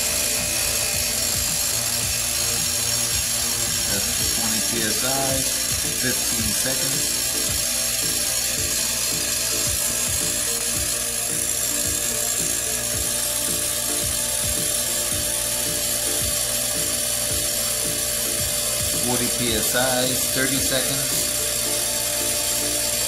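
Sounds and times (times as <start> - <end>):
compressor humming: 0.0 - 23.0.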